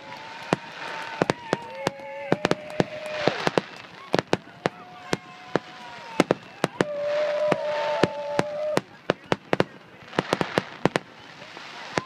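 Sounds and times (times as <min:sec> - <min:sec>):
fireworks bangs: 0:00.0 - 0:12.0
fireworks crackle: 0:00.0 - 0:12.0
fireworks whistling: 0:00.0 - 0:12.0.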